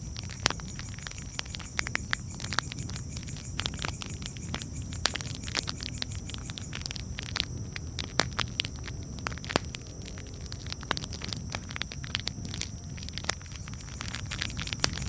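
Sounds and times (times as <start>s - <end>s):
low rumble of burning fire: 0.0s - 15.0s.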